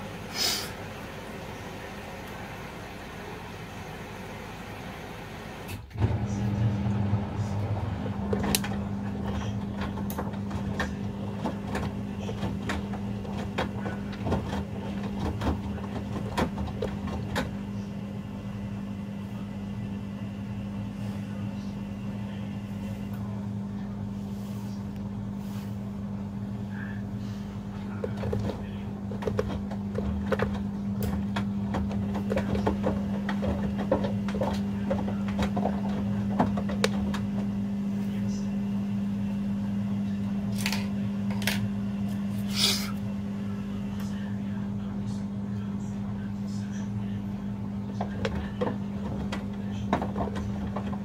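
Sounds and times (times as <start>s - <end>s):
washing machine motor hum: 0.0s - 51.0s.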